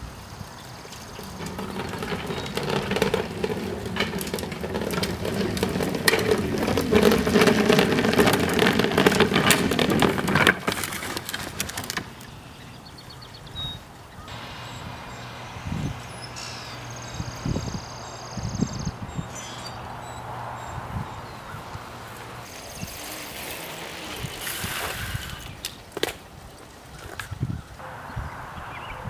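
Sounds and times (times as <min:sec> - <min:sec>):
garbage bin rolling on asphalt: 0:00.0 - 0:28.1.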